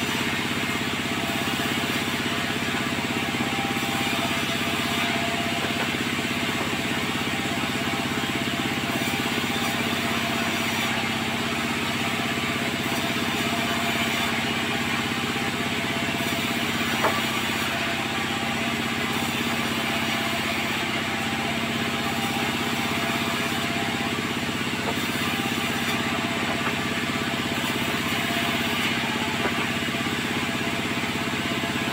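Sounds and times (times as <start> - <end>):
sawmill machinery humming: 0.0 - 31.9.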